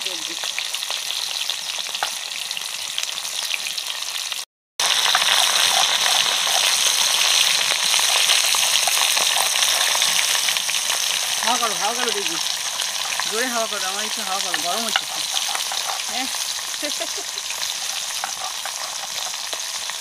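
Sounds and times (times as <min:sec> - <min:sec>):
fish frying in hot oil: 0:00.0 - 0:20.0.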